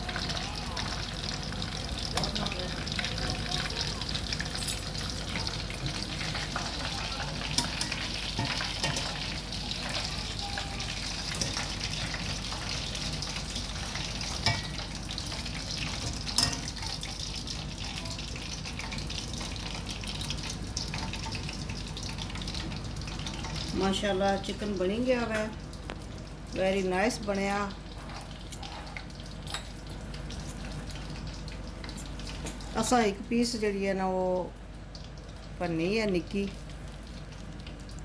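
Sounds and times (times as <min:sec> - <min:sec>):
chicken deep-frying in oil: 0:00.0 - 0:38.0.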